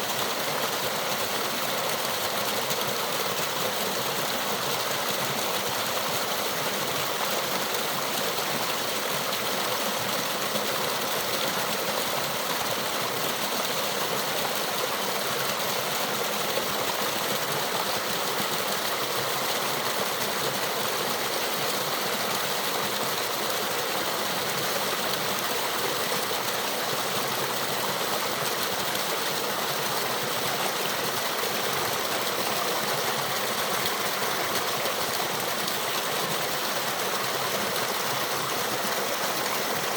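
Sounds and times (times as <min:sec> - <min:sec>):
waterfall and stream flowing: 0:00.0 - 0:39.9.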